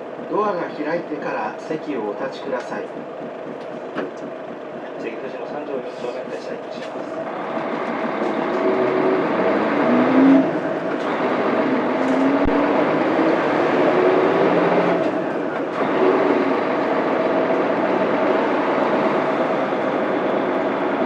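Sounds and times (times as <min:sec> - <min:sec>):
bus diesel engine accelerating: 0:00.0 - 0:21.0.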